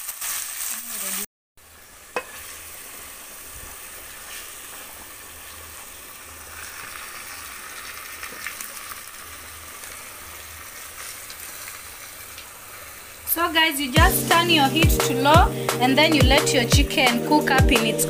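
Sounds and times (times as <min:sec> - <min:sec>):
chicken sizzling in oil: 0:00.0 - 0:17.5.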